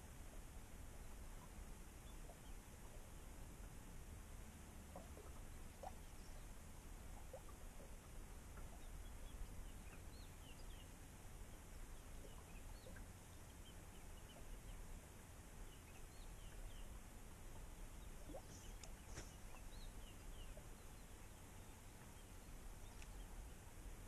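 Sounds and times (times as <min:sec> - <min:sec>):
faint birds chirping: 0:00.0 - 0:24.0
low steady rumble: 0:00.0 - 0:24.0.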